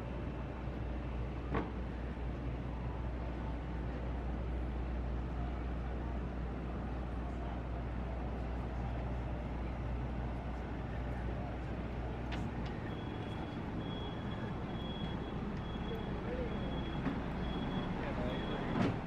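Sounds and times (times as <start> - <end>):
boat diesel engine rumble: 0.0 - 19.0.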